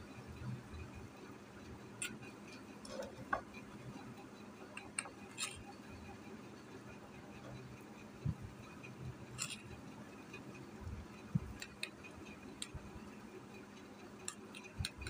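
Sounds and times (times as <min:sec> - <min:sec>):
brush ticking against plastic bowl: 0:00.2 - 0:15.0.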